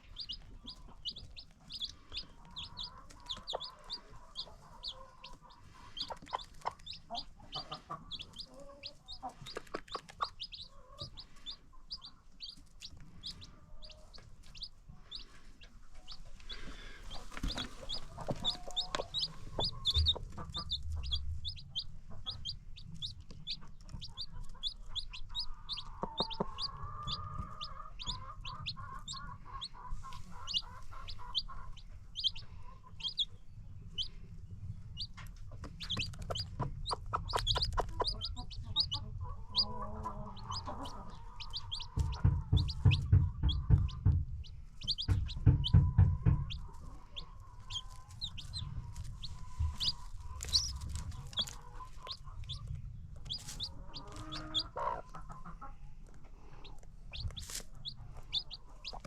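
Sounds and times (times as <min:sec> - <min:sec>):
baby chicks peeping: 0:00.0 - 0:59.0
hen clucking: 0:00.0 - 0:59.0.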